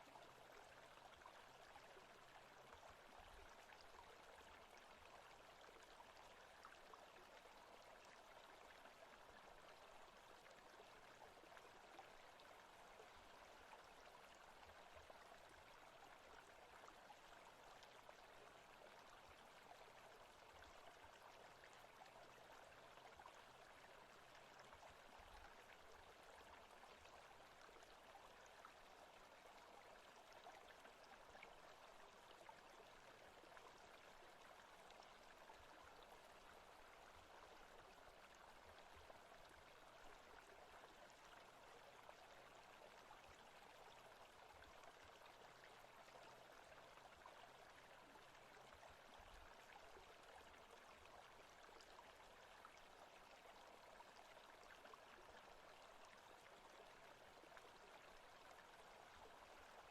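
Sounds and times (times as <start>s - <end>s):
forest stream running water: 0.0s - 59.9s.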